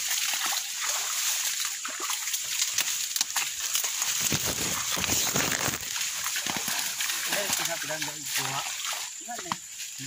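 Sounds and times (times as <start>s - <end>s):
leaves and branches rustling: 1.2s - 10.0s.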